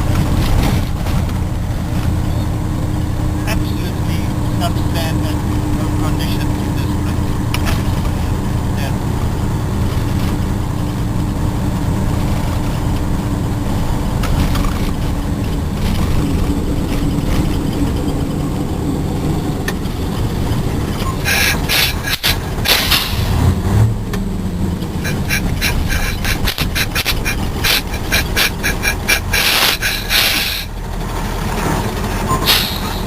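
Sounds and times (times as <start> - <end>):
road noise: 0.0 - 33.0
truck diesel engine running: 0.0 - 33.0.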